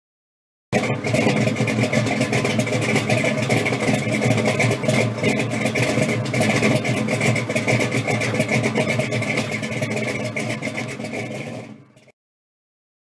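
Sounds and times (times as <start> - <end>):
car engine running: 0.7 - 12.1.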